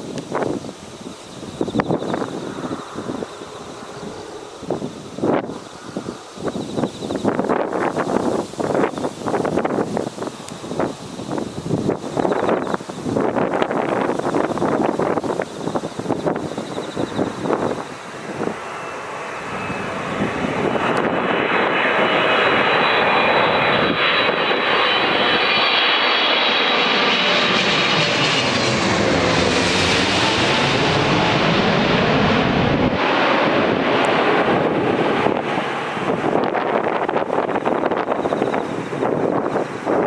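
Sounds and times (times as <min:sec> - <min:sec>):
jet engine roar with fan whine: 0:00.0 - 0:40.0.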